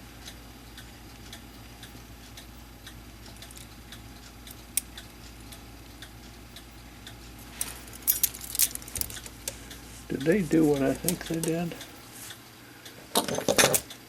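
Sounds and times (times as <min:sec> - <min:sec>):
clock ticking: 0:00.0 - 0:07.5, 0:09.1 - 0:13.0.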